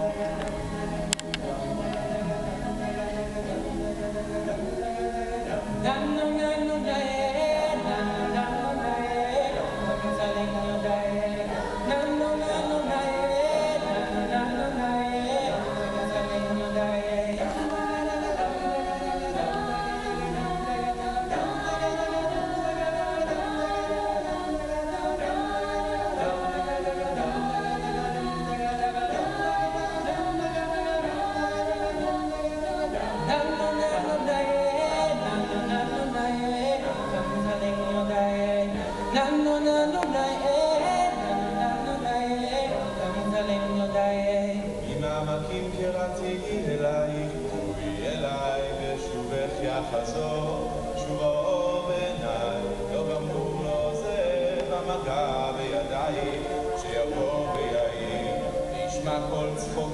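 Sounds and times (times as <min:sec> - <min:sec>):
a cappella group singing in harmony: 0:00.0 - 0:59.9.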